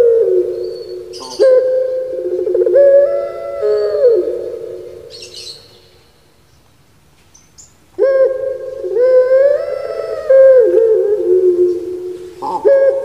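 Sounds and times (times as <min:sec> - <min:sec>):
dove cooing: 0:00.0 - 0:06.1, 0:08.0 - 0:13.0
soft hiss: 0:00.0 - 0:13.0.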